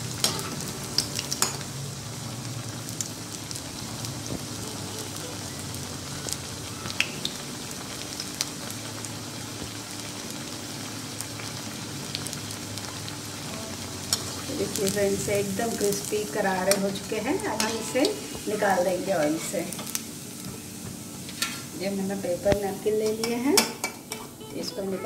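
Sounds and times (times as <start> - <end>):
oil popping and crackling: 0.0 - 21.8
deep-frying sizzle: 0.0 - 25.0.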